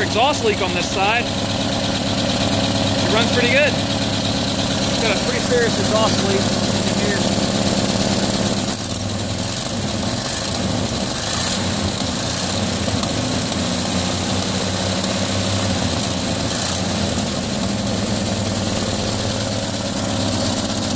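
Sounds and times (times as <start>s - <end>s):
exhaust leak: 0.0s - 20.9s
truck engine idling: 0.0s - 20.9s.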